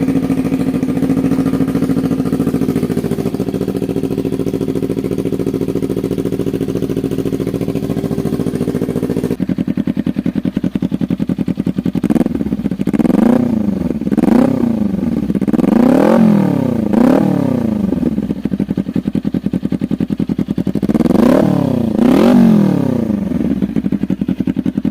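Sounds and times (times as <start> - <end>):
motorcycle engine idling: 0.0 - 24.9
motorcycle throttle blips: 0.0 - 24.9.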